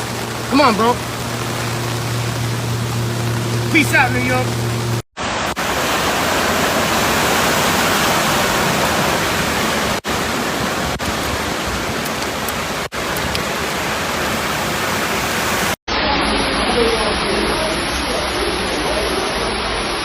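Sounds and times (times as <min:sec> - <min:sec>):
rush of floodwater and rain: 0:00.0 - 0:20.0.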